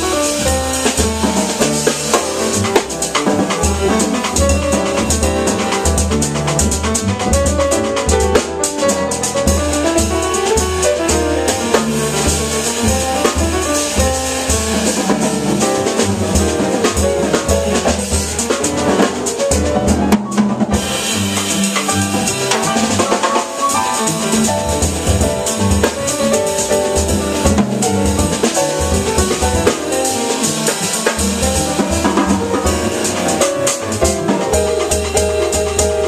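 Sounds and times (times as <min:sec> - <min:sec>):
double bass walking: 0:00.0 - 0:36.0
drum kit cymbals: 0:00.0 - 0:36.0
grand piano: 0:00.0 - 0:36.0.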